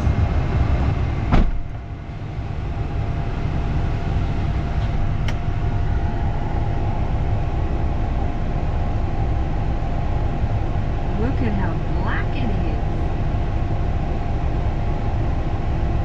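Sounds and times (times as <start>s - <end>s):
diesel truck engine rumbling: 0.0s - 16.0s
faint steady whine: 1.6s - 16.0s.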